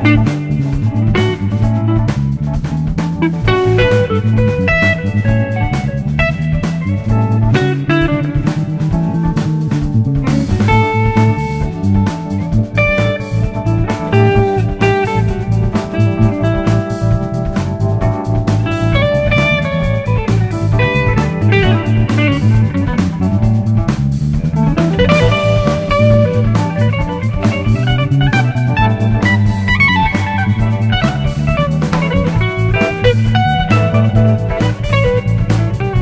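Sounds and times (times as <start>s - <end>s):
bass guitar: 0.0s - 36.0s
drum kit: 0.0s - 36.0s
electric guitar with bent notes: 0.0s - 36.0s.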